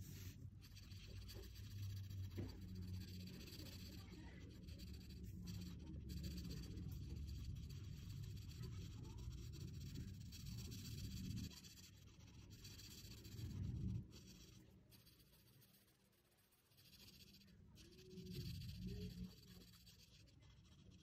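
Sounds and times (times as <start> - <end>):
felt-tip marker rubbing on paper: 0.0 - 21.0.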